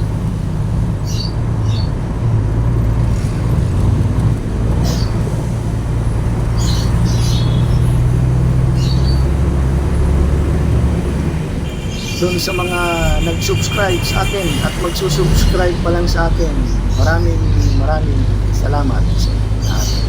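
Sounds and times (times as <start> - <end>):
truck engine humming: 0.0 - 20.0.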